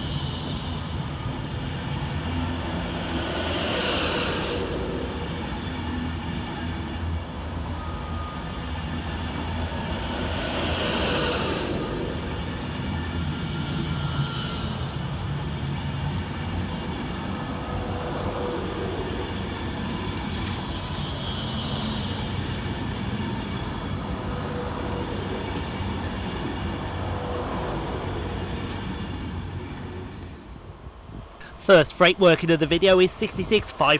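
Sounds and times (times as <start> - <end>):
train wheels rumbling on rails: 0.0 - 33.8.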